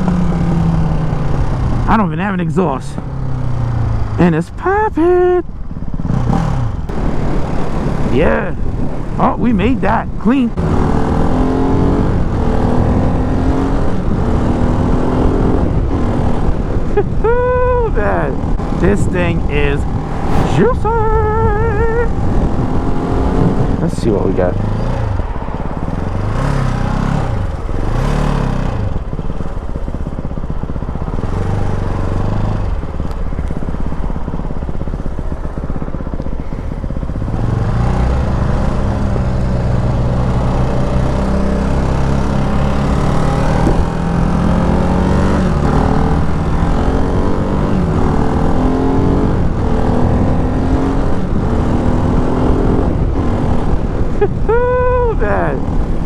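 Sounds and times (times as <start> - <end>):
motorcycle engine accelerating: 0.0 - 9.2, 10.5 - 56.0.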